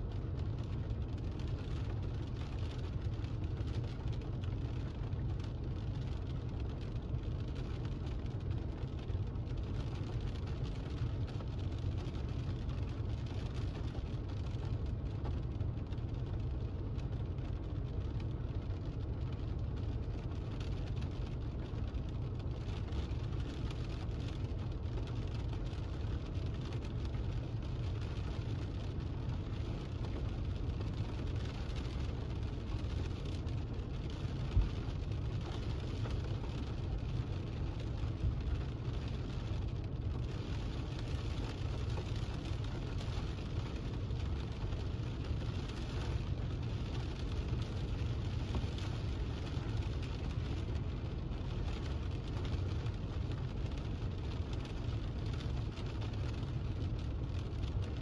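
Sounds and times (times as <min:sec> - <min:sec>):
car interior rumble and hiss: 0:00.0 - 0:58.0.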